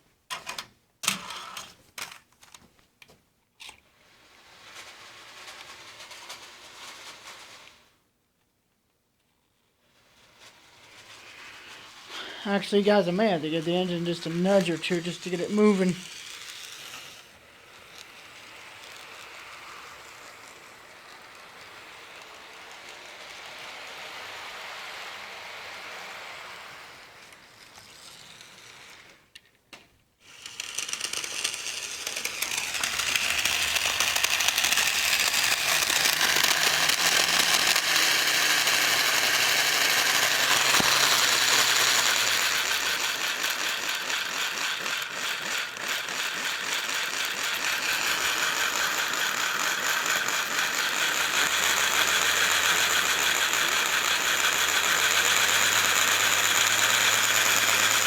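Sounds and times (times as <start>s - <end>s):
model train wheels clicking and rattling: 0.0s - 8.0s, 9.2s - 58.0s.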